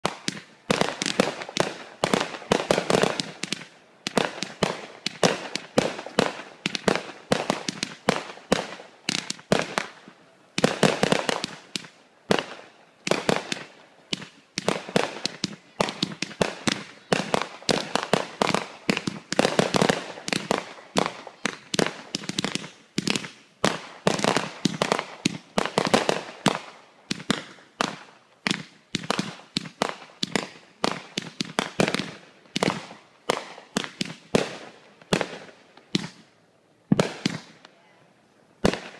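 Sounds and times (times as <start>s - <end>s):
fireworks banging and crackling: 0.0s - 37.7s, 38.6s - 38.9s.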